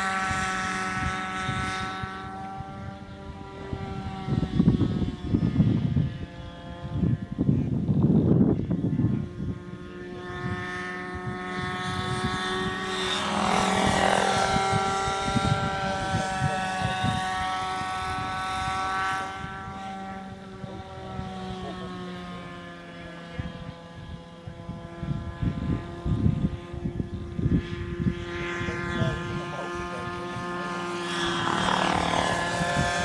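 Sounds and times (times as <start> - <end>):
low rumbling: 0.0 - 33.0
model plane motor droning: 0.0 - 33.0.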